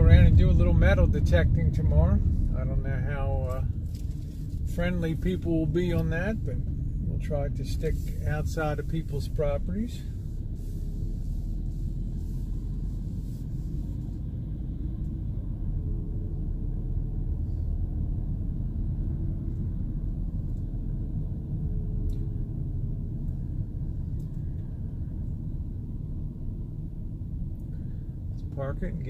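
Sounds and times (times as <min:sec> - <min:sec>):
van engine and road rumble: 0:00.0 - 0:29.0.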